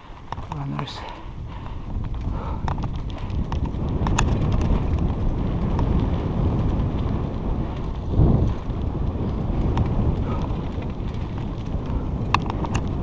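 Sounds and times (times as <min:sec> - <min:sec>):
bike ticks and rattles: 0:00.0 - 0:13.0
wind rumbling on microphone: 0:00.0 - 0:13.0.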